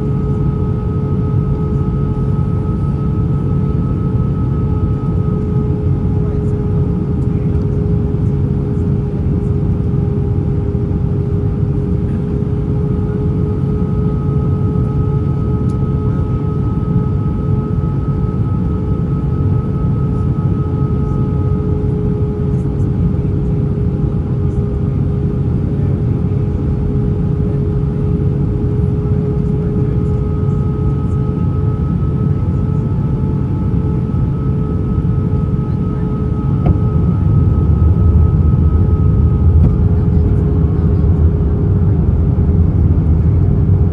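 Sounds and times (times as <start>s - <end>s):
engine and airflow rumble: 0.0s - 43.9s
engine whine: 0.0s - 43.9s.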